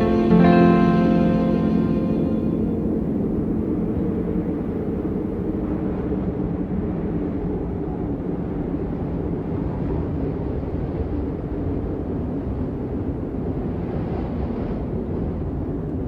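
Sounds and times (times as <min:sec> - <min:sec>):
low rumbling wind-like noise: 0:02.4 - 0:16.0.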